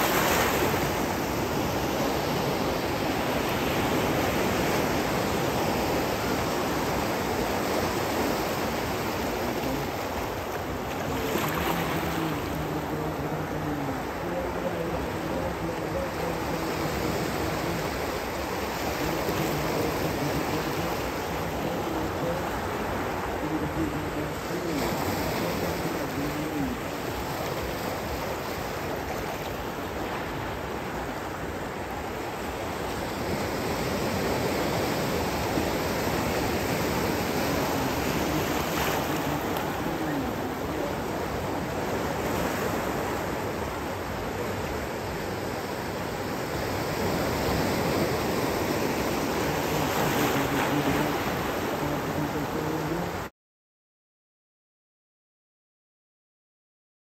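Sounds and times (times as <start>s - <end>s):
ocean surf breaking: 0.0s - 53.3s.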